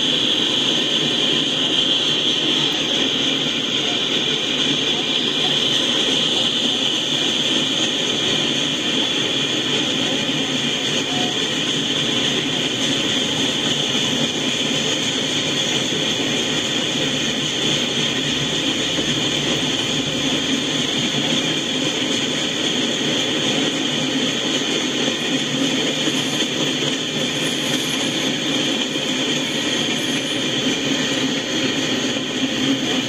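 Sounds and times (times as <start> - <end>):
freight train wheels on rails: 0.0 - 33.0.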